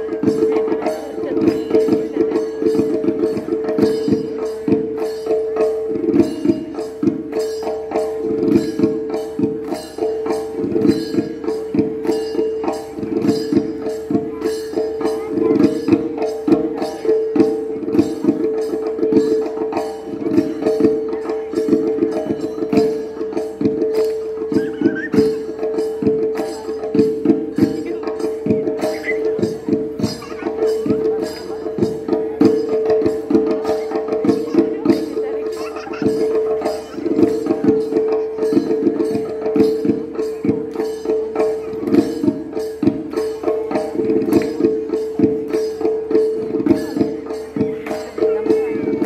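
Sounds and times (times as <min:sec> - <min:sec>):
drums beating quick rhythm: 0:00.0 - 0:49.0.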